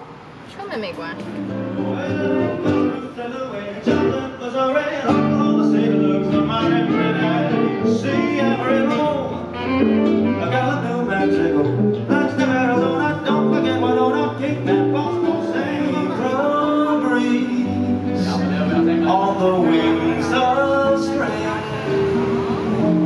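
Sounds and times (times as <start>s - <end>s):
song with instruments and vocals: 1.4s - 23.0s.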